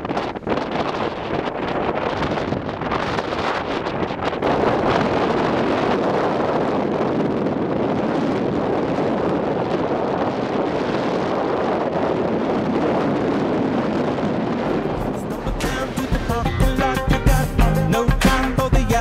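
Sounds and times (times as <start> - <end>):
waves breaking along hull: 0.0 - 17.2
wind buffeting microphone: 0.0 - 19.0.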